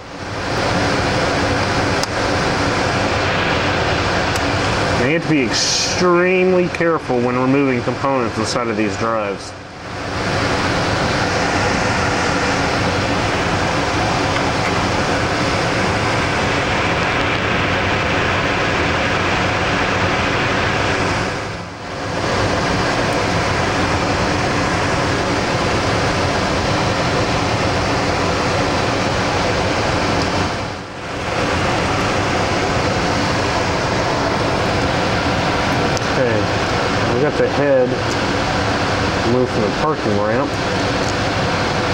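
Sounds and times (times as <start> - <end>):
filtered air rushing: 0.0 - 41.9.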